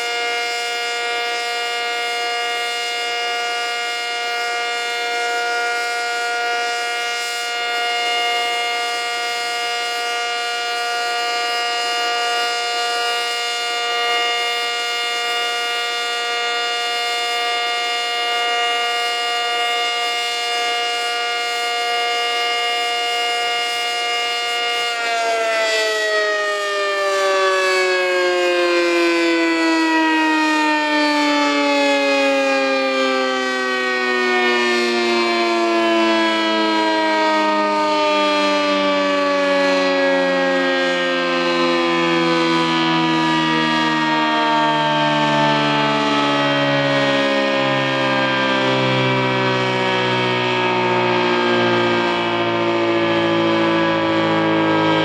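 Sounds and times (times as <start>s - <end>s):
warning siren two-tone chord: 0.0s - 55.0s.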